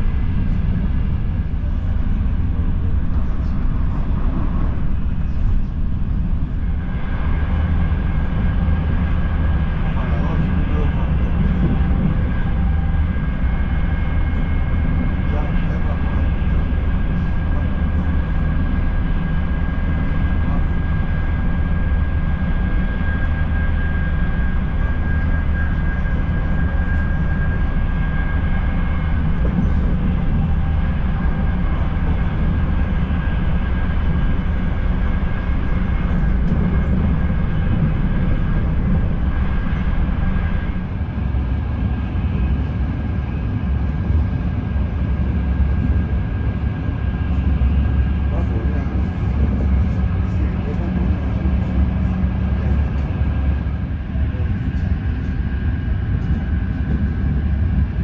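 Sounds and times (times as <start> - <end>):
faint high whine: 0.0 - 58.0
train rumble inside coach: 0.0 - 58.0.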